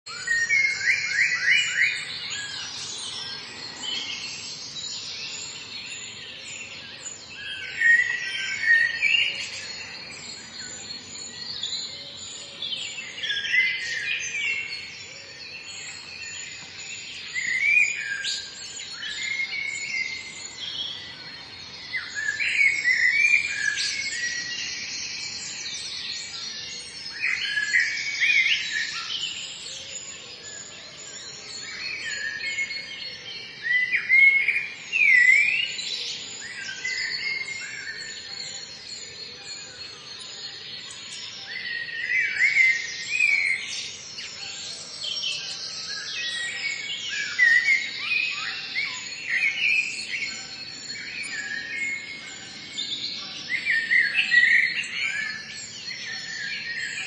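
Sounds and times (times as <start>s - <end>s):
birds singing and chirping: 0.0s - 57.0s.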